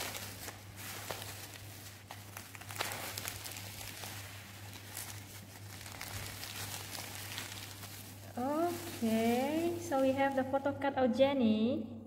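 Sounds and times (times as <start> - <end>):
bubble wrap crinkling: 0.0 - 10.8
steady low hum: 0.0 - 12.0.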